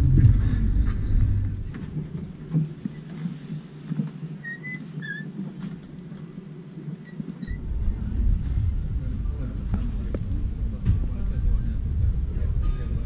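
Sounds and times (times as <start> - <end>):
low background murmur: 0.0 - 13.0.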